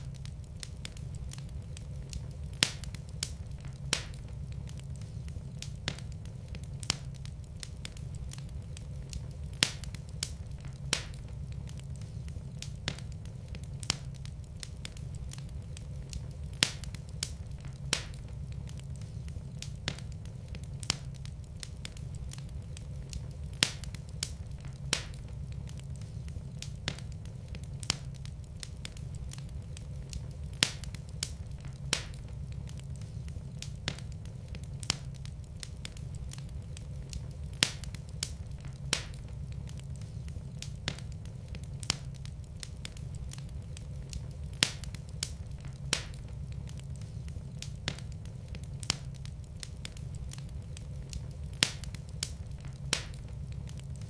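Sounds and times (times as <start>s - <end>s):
fire pops and crackles: 0.0s - 54.0s
low rumble of fire flames: 0.0s - 54.0s.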